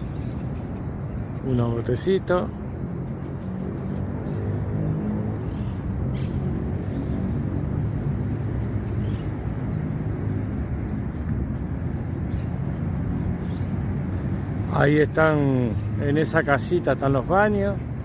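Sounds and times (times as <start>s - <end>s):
low engine hum: 0.0s - 18.0s
road traffic rumble: 0.0s - 18.0s.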